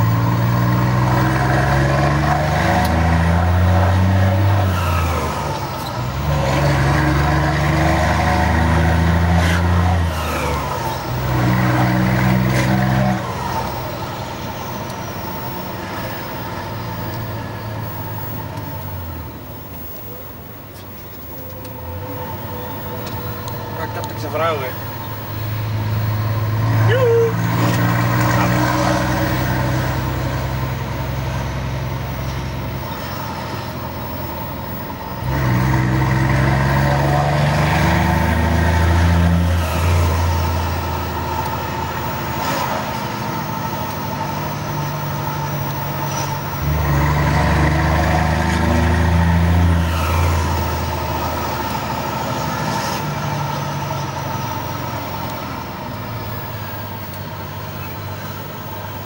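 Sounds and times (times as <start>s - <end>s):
truck diesel engine from cab: 0.0s - 59.0s.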